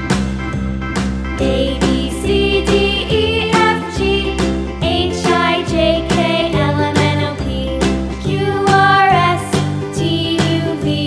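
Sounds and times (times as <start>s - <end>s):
children's background music: 0.0s - 11.0s.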